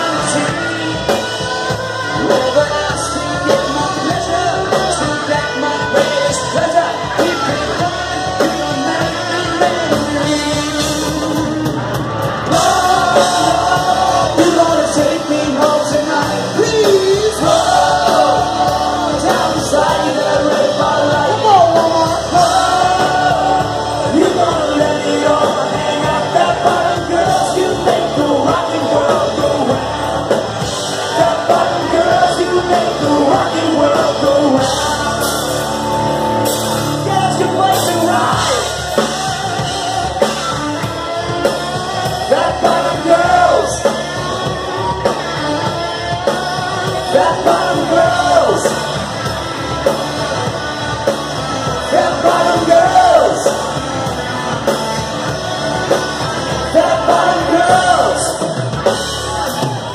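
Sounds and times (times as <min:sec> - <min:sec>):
drum kit: 0:00.0 - 0:59.9
electric guitars: 0:00.0 - 0:59.9
lead singer singing: 0:00.0 - 0:59.9.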